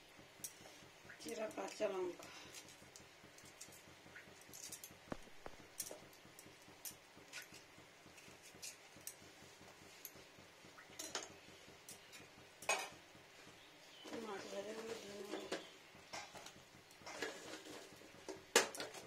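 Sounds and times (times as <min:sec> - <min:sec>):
curry simmering with popping bubbles: 0:00.0 - 0:19.0.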